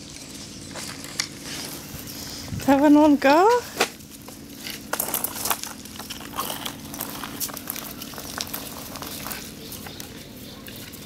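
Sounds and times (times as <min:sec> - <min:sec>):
claws scratching on concrete: 0:00.7 - 0:02.7, 0:03.6 - 0:11.0.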